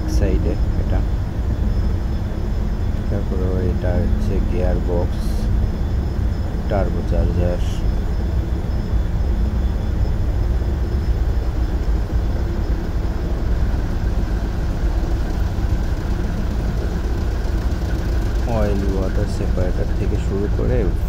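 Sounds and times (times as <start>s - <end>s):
engine room machinery din: 0.0s - 21.0s
faint high whine: 0.0s - 21.0s.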